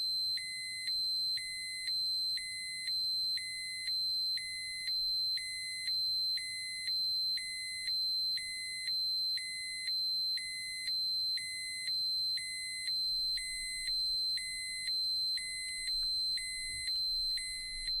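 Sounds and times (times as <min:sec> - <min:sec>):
pulsing two-tone alarm beep: 0:00.4 - 0:18.0.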